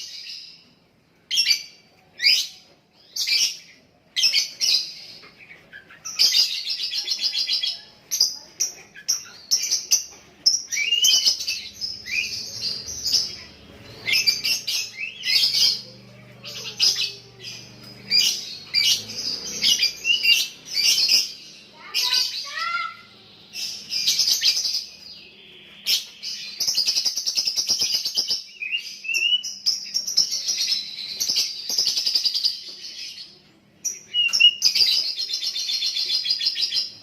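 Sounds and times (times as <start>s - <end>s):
bird chattering with high chirps: 1.3s - 37.0s.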